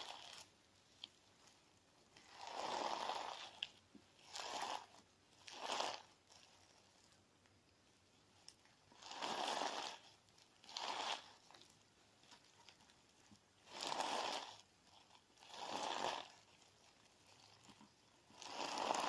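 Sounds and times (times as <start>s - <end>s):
crunchy slime squishing: 0.0s - 19.0s.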